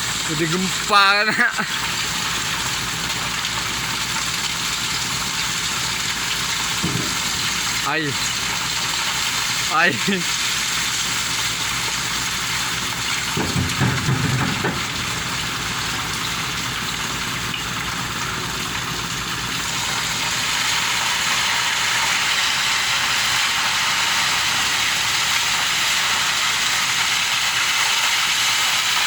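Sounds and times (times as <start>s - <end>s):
rushing water hiss: 0.0s - 29.0s.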